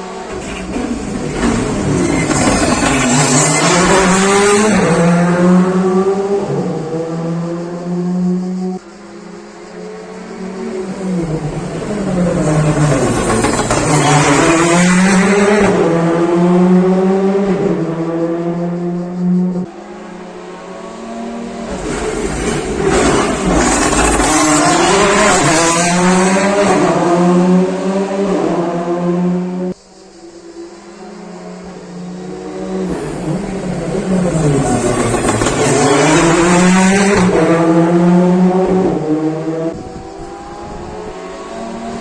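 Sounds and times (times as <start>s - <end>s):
rally car engine at full throttle: 0.0s - 42.0s.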